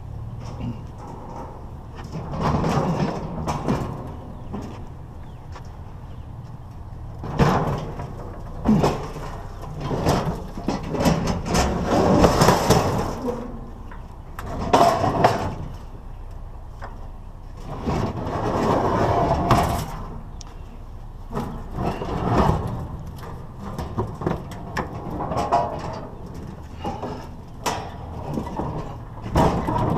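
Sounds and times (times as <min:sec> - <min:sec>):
scrap metal clanking and scraping: 0:00.1 - 0:29.9.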